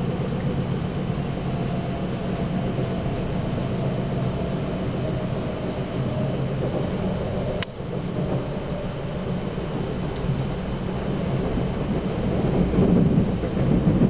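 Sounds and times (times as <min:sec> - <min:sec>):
low hum: 0:00.0 - 0:14.0
train rolling noise: 0:00.0 - 0:14.0.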